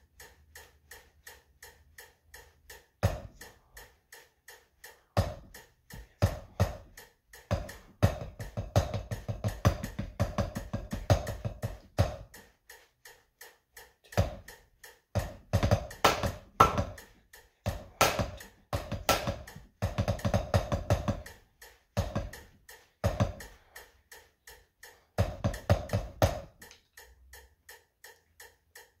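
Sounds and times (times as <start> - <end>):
drumsticks on practice pad: 0.0 - 29.0.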